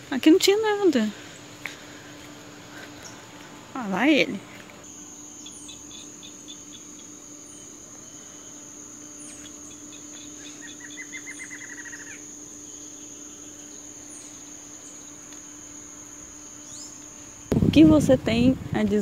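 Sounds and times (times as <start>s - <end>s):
pulsed insect trill: 0.0s - 18.4s
insect chirps: 0.0s - 19.0s
insects droning high whine: 0.0s - 19.0s.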